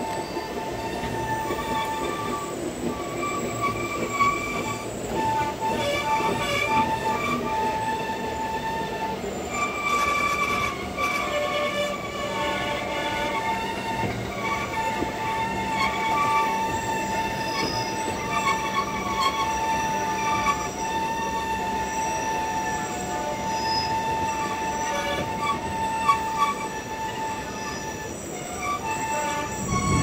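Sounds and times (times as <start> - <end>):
train carriages running noise: 0.0 - 30.0
train wheels squealing: 0.0 - 30.0.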